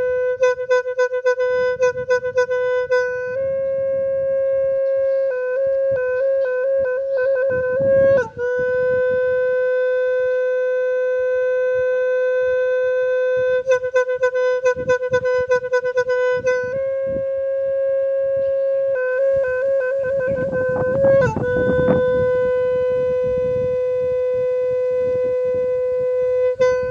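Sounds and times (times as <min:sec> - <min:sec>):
woodwind instrument playing: 0:00.0 - 0:26.9.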